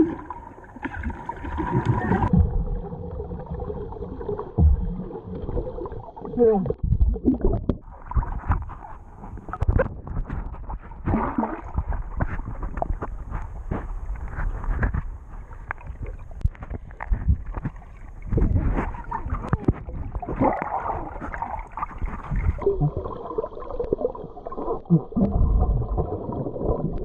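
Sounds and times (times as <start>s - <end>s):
water bubbling underwater: 0.0s - 27.0s.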